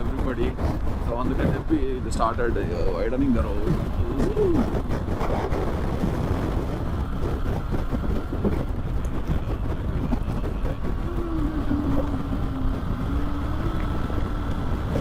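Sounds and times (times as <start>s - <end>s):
motorcycle engine droning: 0.0s - 15.0s
wind rush on microphone: 0.0s - 15.0s.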